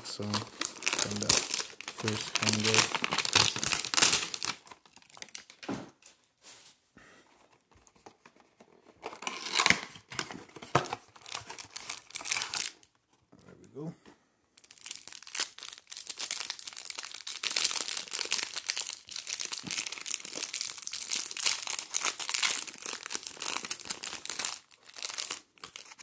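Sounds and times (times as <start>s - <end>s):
cellophane crinkling and crackling: 0.0s - 5.7s, 7.7s - 13.1s, 14.6s - 26.0s.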